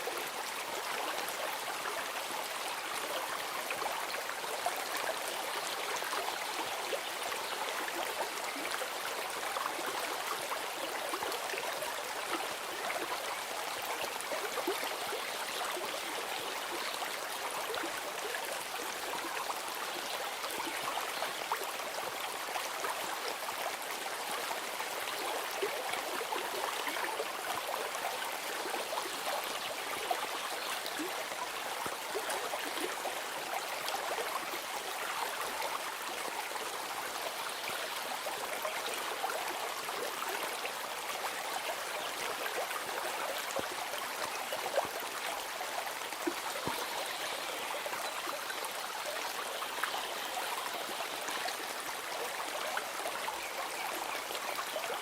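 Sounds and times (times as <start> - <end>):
stream of running water: 0.0 - 55.0.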